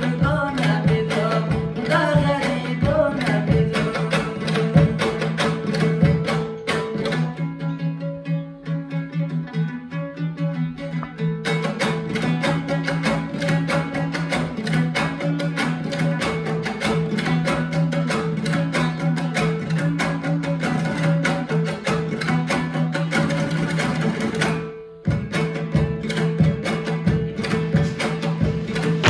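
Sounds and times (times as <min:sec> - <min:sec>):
string music with steady beat: 0:00.0 - 0:29.0.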